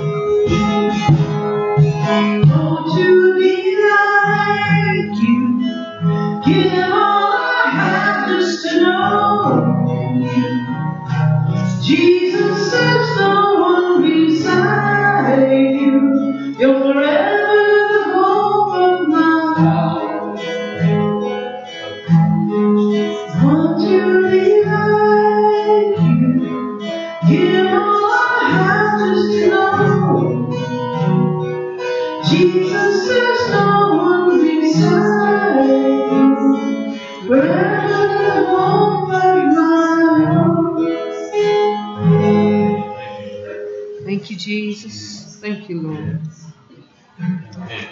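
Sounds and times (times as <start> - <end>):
person singing: 0.0 - 20.9, 23.0 - 31.2, 32.2 - 41.7
acoustic guitar: 0.0 - 47.9.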